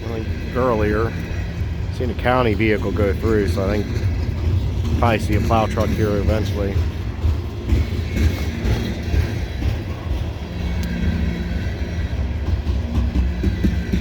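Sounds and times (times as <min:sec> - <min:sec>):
freight train rumbling past: 0:00.0 - 0:14.0
faint rail clicks: 0:00.5 - 0:14.0.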